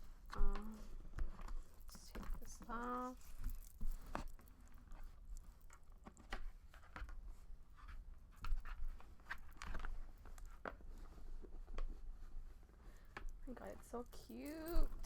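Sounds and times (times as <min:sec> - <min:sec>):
wrapping rustling and crinkling: 0:00.0 - 0:15.0.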